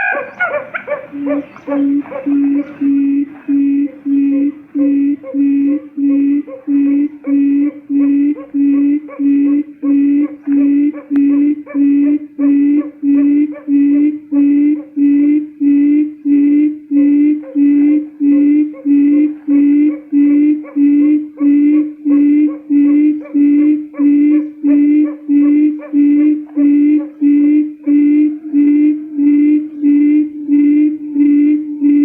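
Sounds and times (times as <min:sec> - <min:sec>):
quail call low hooting: 0:00.0 - 0:32.0.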